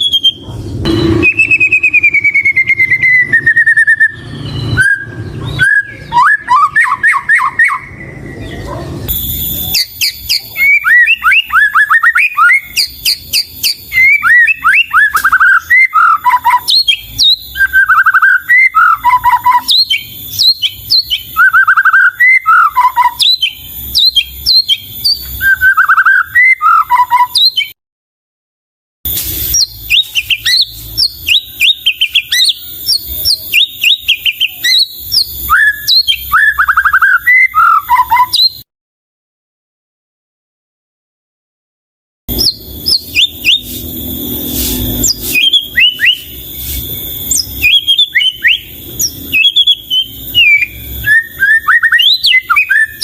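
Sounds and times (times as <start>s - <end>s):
songbird whistling: 0.0s - 27.8s, 29.3s - 38.6s, 42.3s - 53.0s.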